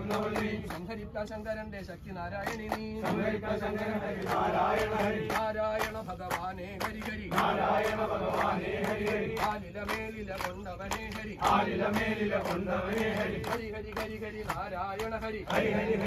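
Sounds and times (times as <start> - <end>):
men chanting: 0.0 - 16.0.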